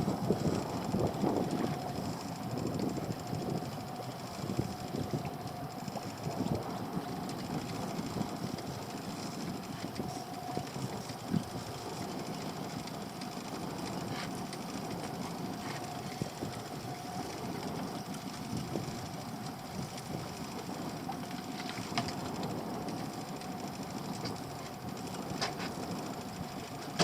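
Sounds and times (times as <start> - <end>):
boat engine idling: 0.0 - 27.0
faint clicks: 0.4 - 27.0.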